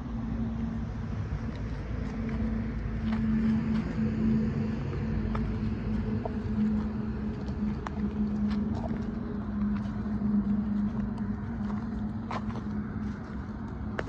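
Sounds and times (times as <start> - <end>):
low engine-like hum: 0.0 - 14.0
low rumble: 0.0 - 14.0
footsteps in dry scrub: 0.8 - 14.0.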